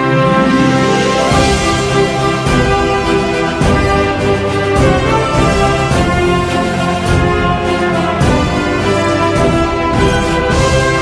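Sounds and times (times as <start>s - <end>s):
music with sustained notes: 0.0s - 11.0s.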